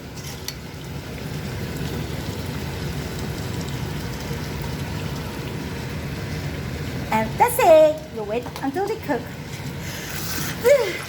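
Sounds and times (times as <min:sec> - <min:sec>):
gravy bubbling and crackling: 0:00.0 - 0:11.0
low steady hum: 0:00.0 - 0:11.0.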